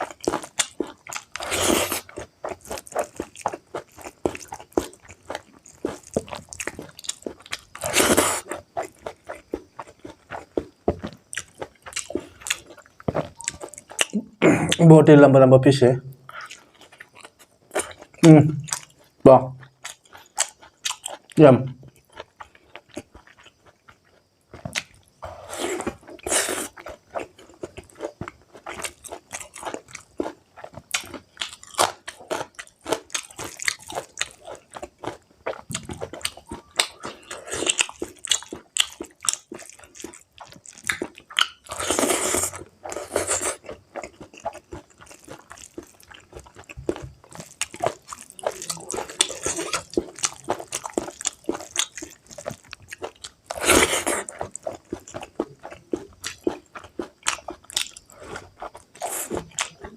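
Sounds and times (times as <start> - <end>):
chewing and biting meat: 0.0 - 14.2, 16.3 - 59.9.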